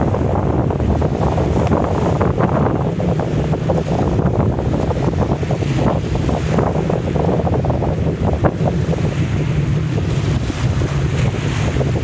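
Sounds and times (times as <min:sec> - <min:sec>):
boat engines droning: 0:00.0 - 0:12.0
choppy water: 0:00.0 - 0:12.0
wind buffeting microphone: 0:00.0 - 0:12.0.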